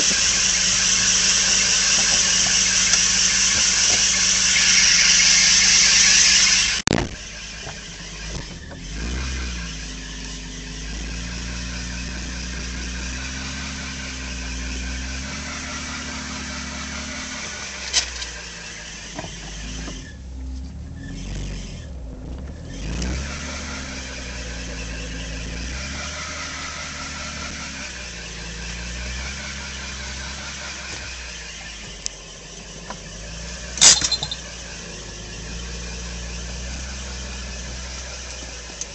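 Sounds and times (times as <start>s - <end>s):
loud squeal: 0.0s - 20.2s, 22.6s - 38.3s
car engine running: 0.0s - 38.9s.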